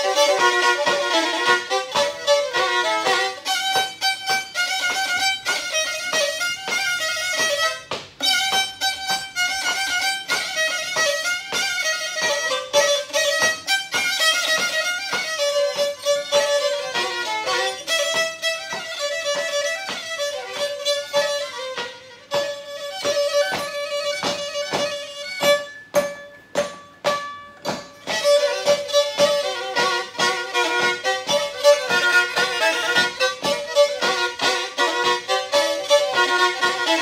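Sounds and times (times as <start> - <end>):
bowed fiddle fast tune: 0.0 - 37.0.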